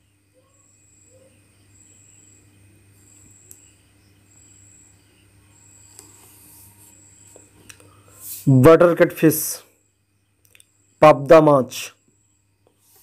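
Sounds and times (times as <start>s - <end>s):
cricket chirping: 0.0s - 13.0s
steady low hum: 0.0s - 13.0s.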